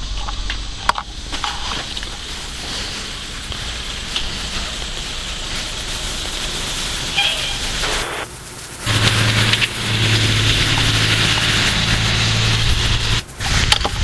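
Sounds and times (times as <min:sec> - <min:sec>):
rain falling on wet surfaces: 0:00.1 - 0:14.0.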